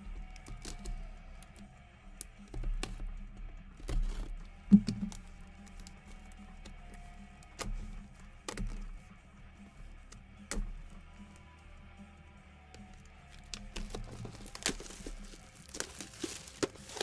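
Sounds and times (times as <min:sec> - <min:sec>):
light clicks and taps on box: 0:00.0 - 0:09.2, 0:09.9 - 0:11.8, 0:12.7 - 0:17.0.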